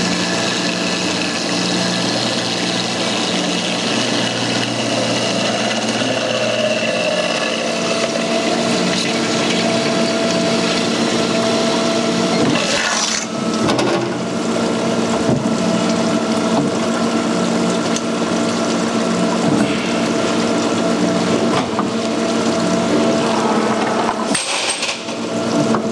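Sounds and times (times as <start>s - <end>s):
motor or pump humming: 0.0s - 25.9s.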